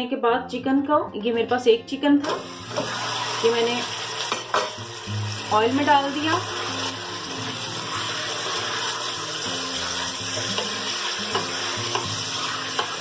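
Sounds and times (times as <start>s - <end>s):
chicken sizzling in hot fat: 2.2s - 13.0s.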